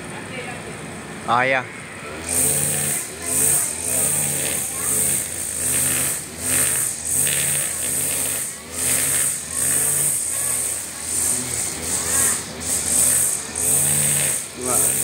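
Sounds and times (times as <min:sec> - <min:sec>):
brush cutter running: 0:02.1 - 0:15.0
trimmer line whirring through grass: 0:02.2 - 0:15.0.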